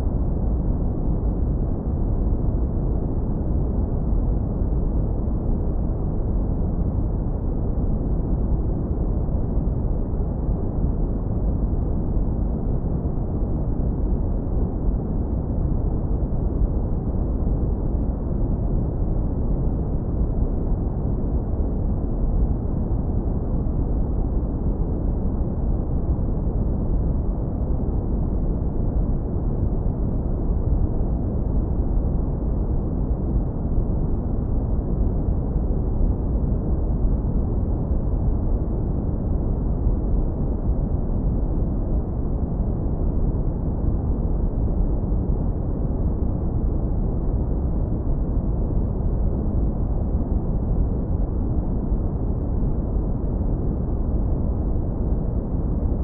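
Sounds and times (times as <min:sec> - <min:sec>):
deep brown noise rumble: 0:00.0 - 0:56.0.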